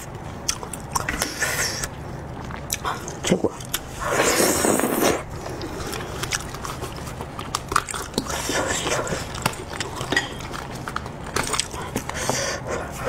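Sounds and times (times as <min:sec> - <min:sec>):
wet chewing: 0:00.4 - 0:13.0.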